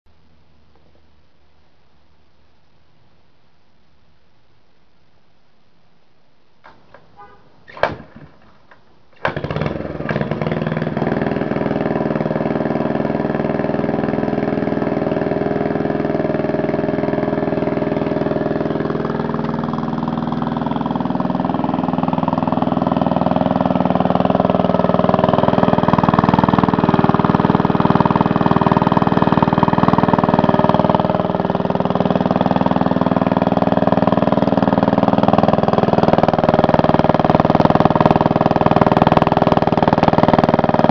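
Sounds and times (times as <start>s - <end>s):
single-cylinder engine running: 6.7s - 40.9s.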